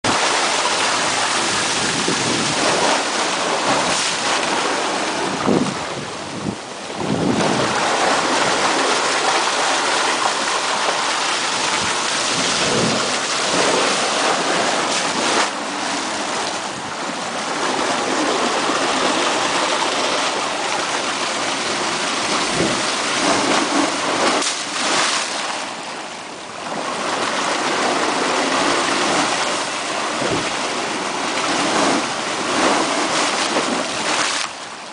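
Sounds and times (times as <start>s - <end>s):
seawater rushing in blowhole: 0.0s - 34.9s.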